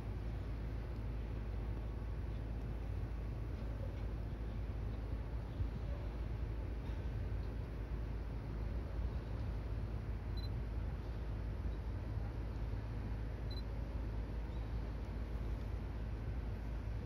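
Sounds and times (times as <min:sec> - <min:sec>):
low rumbling station noise: 0:00.0 - 0:17.0.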